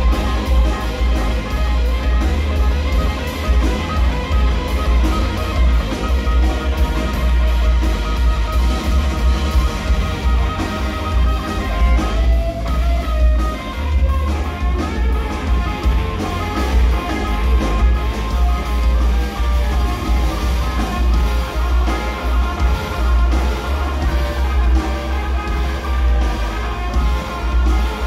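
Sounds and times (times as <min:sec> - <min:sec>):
drum kit: 0:00.0 - 0:28.0
electric guitar: 0:00.0 - 0:28.0
organ with heavy bass line: 0:00.0 - 0:28.0.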